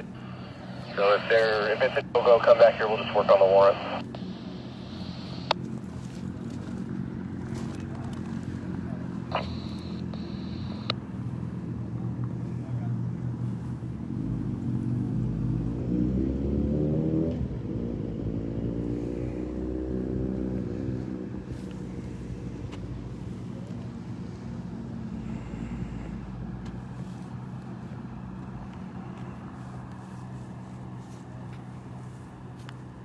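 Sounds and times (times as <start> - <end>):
vehicle engine driving off: 3.3 - 33.0.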